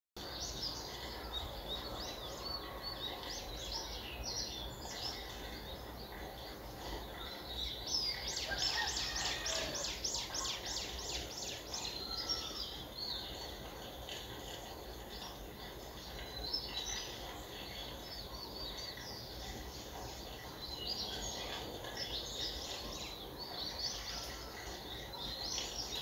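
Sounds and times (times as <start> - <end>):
songbirds singing: 0.2 - 26.0.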